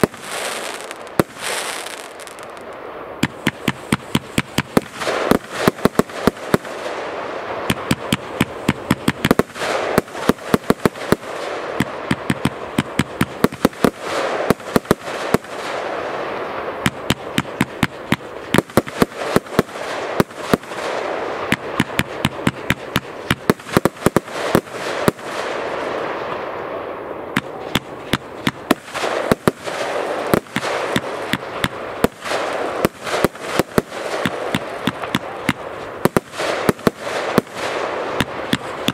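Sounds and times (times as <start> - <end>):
firework bangs: 0.0 - 38.9.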